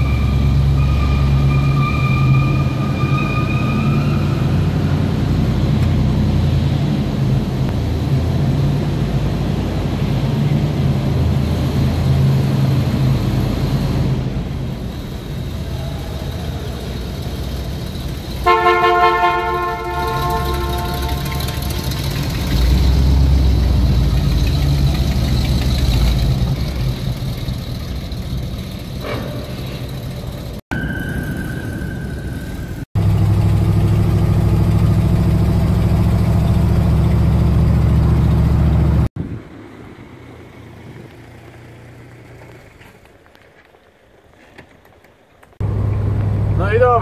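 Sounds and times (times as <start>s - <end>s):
pickup truck engine running: 4.7s - 30.6s, 32.3s - 44.2s.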